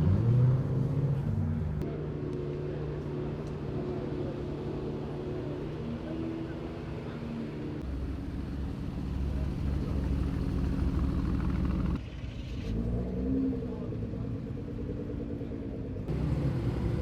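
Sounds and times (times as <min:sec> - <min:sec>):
car engines rumbling: 0:00.0 - 0:17.0.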